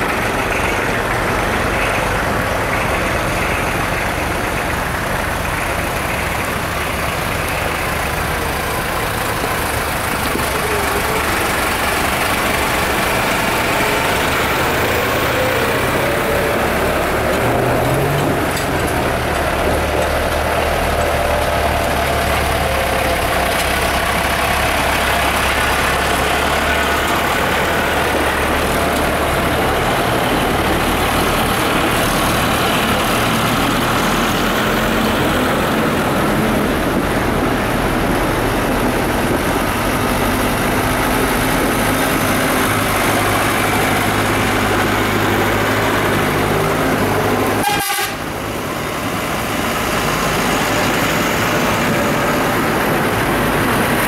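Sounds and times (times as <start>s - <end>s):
tractor engines passing: 0.0s - 54.0s.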